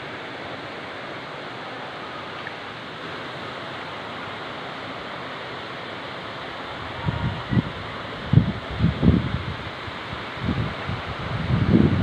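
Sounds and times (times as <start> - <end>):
river water rushing over weir: 0.0 - 12.0.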